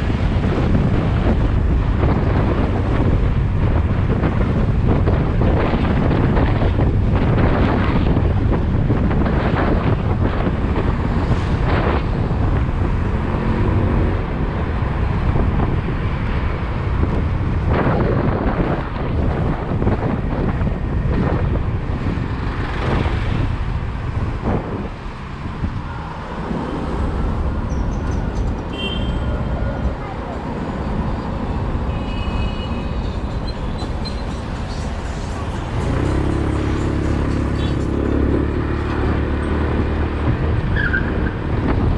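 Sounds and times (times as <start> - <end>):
road and traffic rumble: 0.0 - 41.9
wind buffeting microphone: 0.0 - 41.9.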